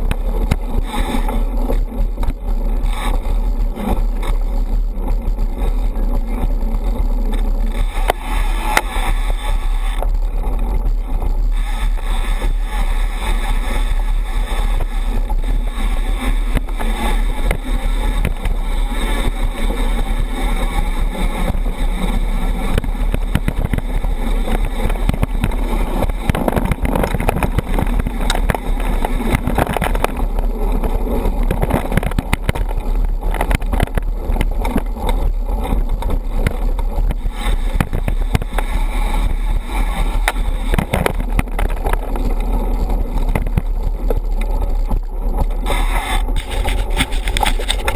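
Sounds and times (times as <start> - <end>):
bike rattles and knocks: 0.0 - 47.9
wind rush: 0.0 - 47.9.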